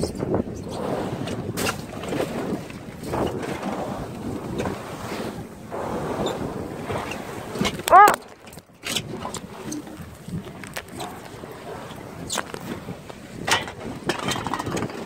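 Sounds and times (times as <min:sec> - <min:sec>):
sea wash around hull: 0:00.0 - 0:15.0
wind buffeting microphone: 0:00.0 - 0:15.0.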